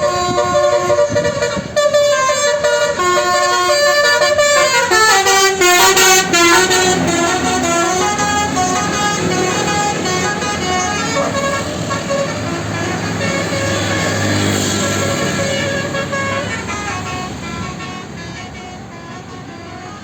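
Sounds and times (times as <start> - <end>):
multi-tone bus air horn tune: 0.0 - 20.0.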